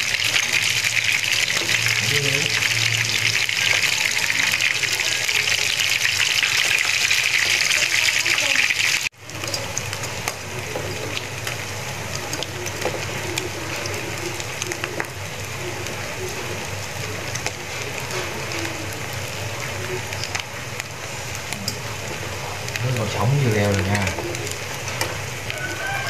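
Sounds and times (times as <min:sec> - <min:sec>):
fritters sizzling in oil: 0:00.0 - 0:26.0
oil popping and crackling: 0:00.0 - 0:26.0.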